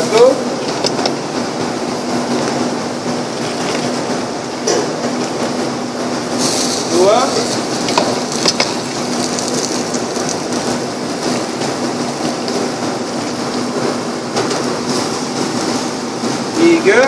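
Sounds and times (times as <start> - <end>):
pot of water boiling: 0.0 - 17.0.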